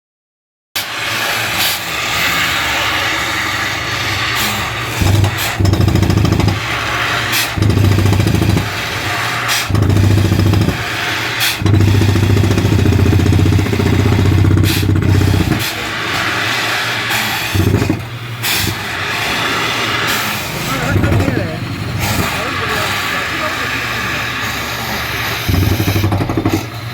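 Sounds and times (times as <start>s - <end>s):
drilling rig engine: 0.8s - 26.9s
loud low hum: 1.1s - 26.5s.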